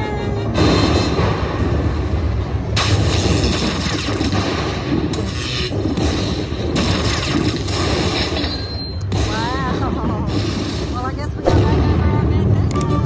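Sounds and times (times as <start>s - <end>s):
loud booming effects: 0.6s - 8.5s, 9.1s - 12.6s.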